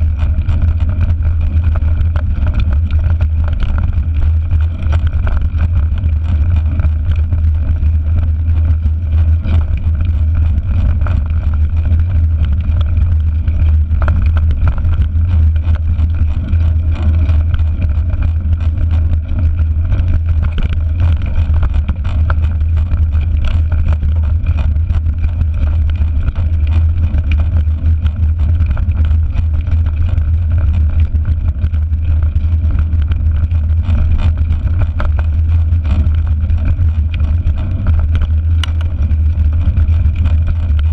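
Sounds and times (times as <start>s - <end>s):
low rumble of wind and vibration: 0.0s - 40.9s
small rattles and knocks: 0.0s - 40.9s.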